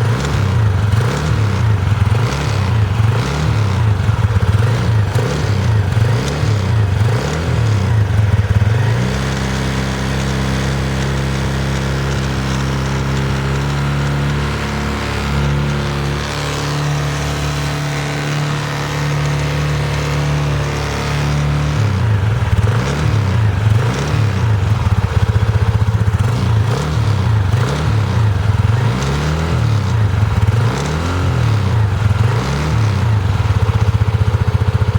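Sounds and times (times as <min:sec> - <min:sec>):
scooter engine revving: 0:00.0 - 0:34.9.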